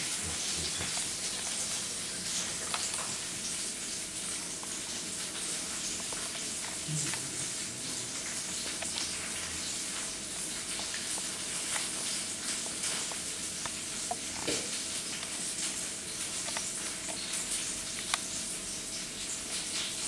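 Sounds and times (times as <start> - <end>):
cat chewing food: 0.0 - 19.6
steady hiss: 0.0 - 20.0.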